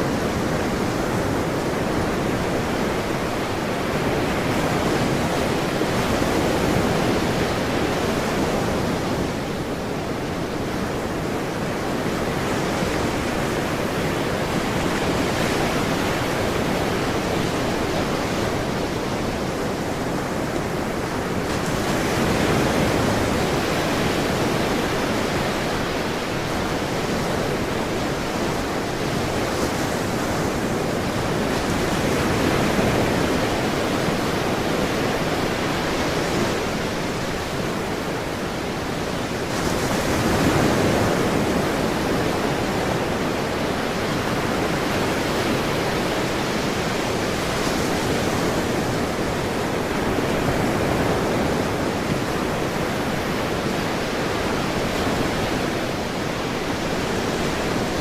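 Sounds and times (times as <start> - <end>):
ocean waves washing: 0.0 - 58.0.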